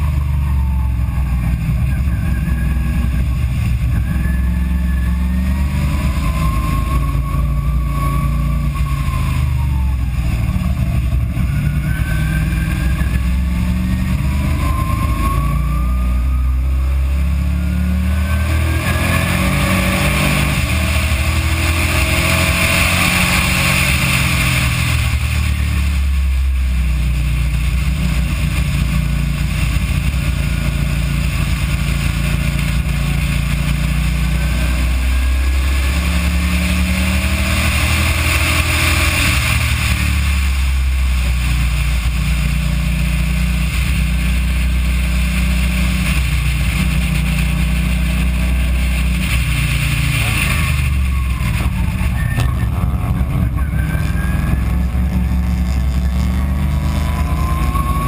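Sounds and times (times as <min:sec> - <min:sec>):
race car engine accelerating: 0:00.0 - 0:58.0
wind and road noise: 0:00.0 - 0:58.0.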